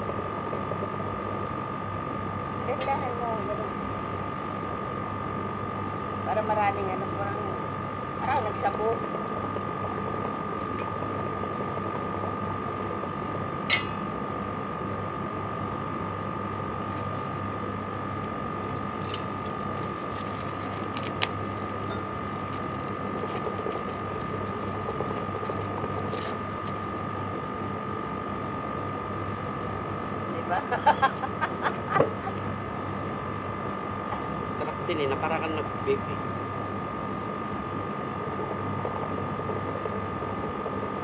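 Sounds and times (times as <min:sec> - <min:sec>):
mechanical hum with whine: 0:00.0 - 0:41.0.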